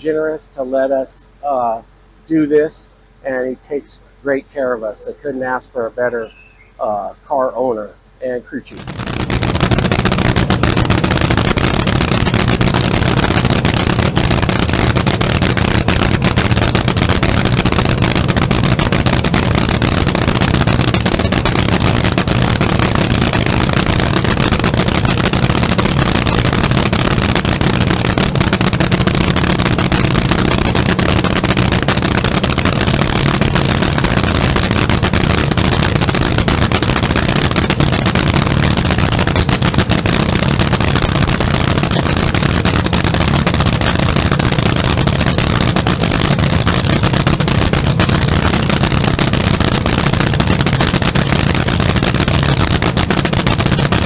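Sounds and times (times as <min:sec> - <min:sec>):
dragster engine idling loudly: 0:08.8 - 0:54.0.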